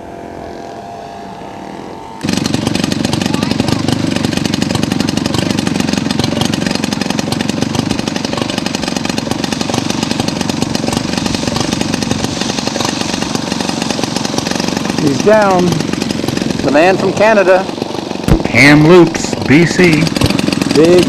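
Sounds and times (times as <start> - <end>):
model aircraft engine running: 0.0 - 21.0.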